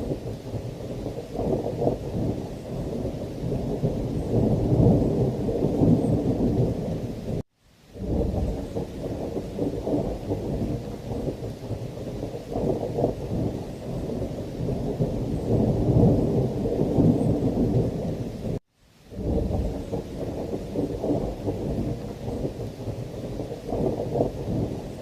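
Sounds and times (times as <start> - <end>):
rumble of thunder: 0.0 - 7.4, 8.0 - 25.0
heavy rain: 0.0 - 25.0.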